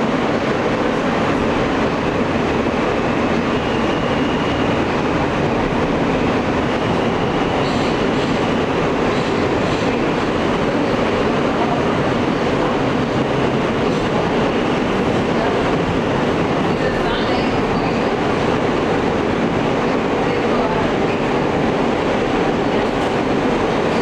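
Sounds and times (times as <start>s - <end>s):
subway wheels rumbling on rails: 0.0s - 24.0s.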